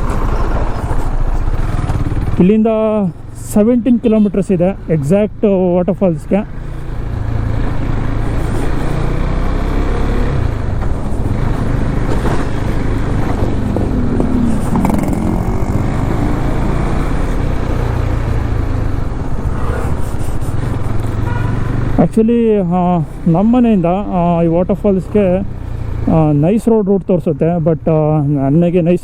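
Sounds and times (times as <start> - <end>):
motorcycle engine drone: 0.0 - 29.0
road and wind noise: 0.0 - 29.0.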